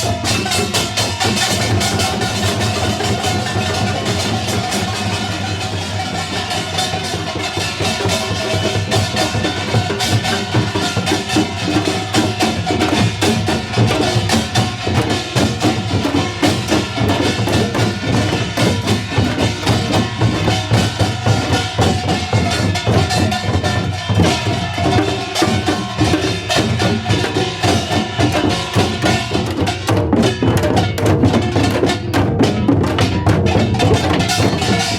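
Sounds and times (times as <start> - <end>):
hourglass drums: 0.0 - 34.9.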